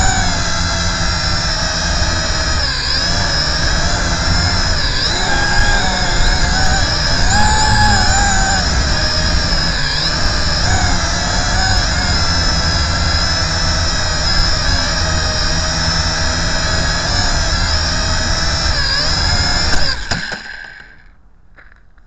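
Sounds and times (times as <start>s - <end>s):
small motor whining: 0.0s - 21.8s.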